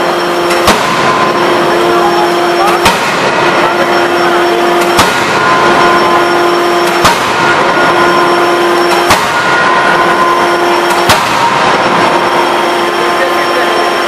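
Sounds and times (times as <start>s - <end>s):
forging hammer heavy blows: 0.0s - 13.2s
steady machine hum: 0.0s - 14.0s.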